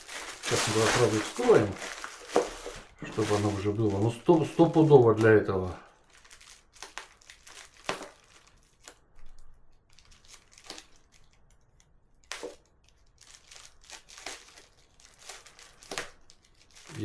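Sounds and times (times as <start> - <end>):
plastic packaging tearing and crinkling: 0.0 - 17.0.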